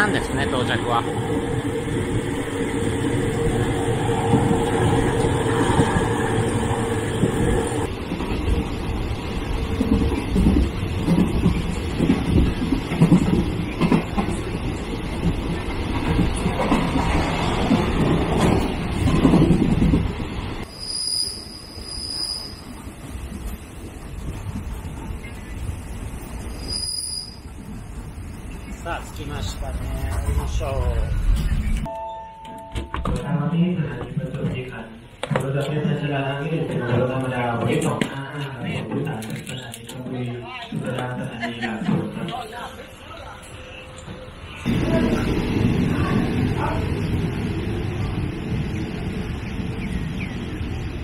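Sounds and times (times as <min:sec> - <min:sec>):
train carriage rumble and rattle: 0:00.0 - 0:31.9, 0:32.5 - 0:51.0.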